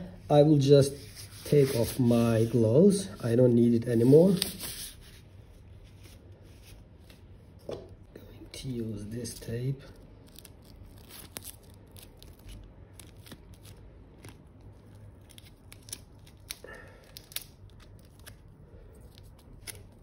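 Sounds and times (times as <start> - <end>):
tape and paper crackling: 1.0 - 7.3, 9.3 - 20.0.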